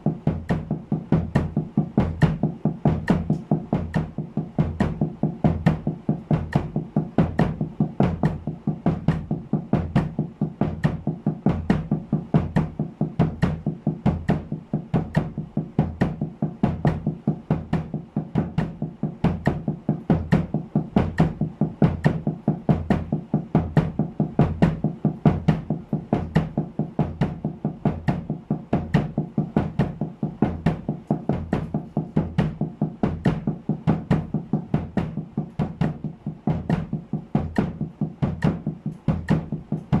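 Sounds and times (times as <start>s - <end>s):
bass drum kicks: 0.0s - 40.0s
muffled snare drum strokes: 0.0s - 40.0s.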